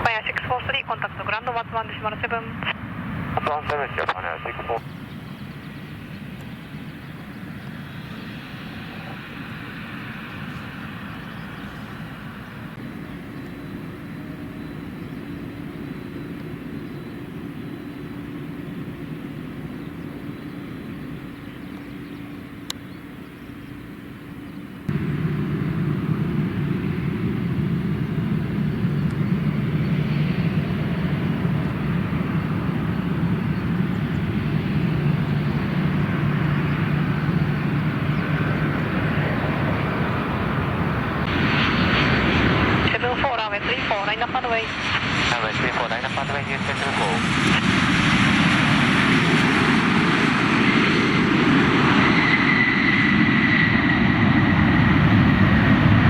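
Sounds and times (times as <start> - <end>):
jet engines running: 0.0 - 56.0
loud deep aircraft engine: 0.0 - 56.0.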